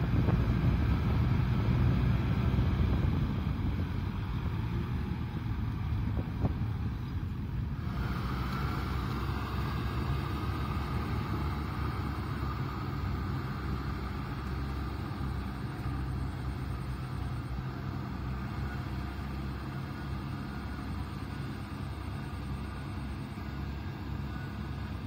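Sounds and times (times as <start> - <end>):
tractor diesel engines running: 0.0 - 25.0.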